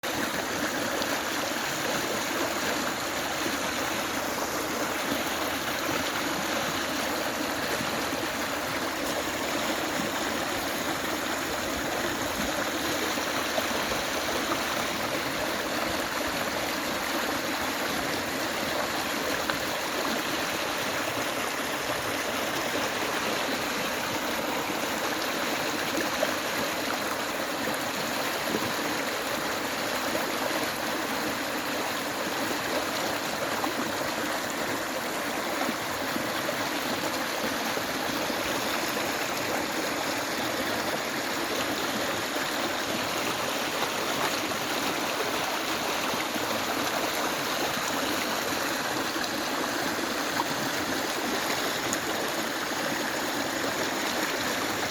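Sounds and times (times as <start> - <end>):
river water flowing over stones: 0.0 - 54.9.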